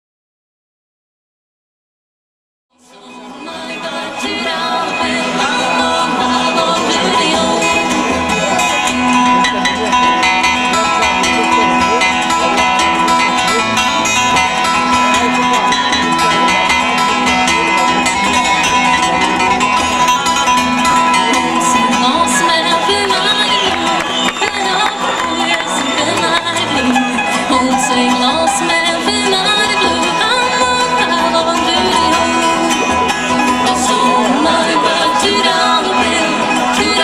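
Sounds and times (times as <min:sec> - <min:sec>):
bluegrass band playing: 0:02.9 - 0:37.0.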